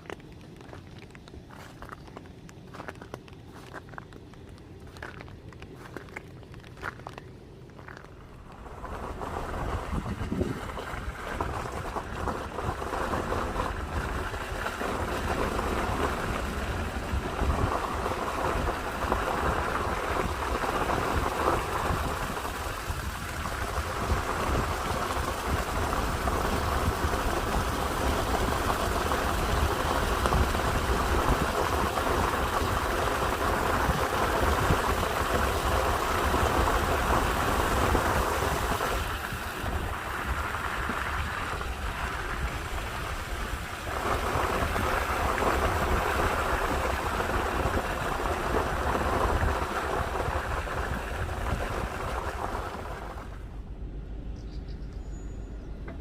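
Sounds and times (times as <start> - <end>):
wind buffeting microphone: 7.8 - 53.5
heavy rain falling: 8.0 - 53.5.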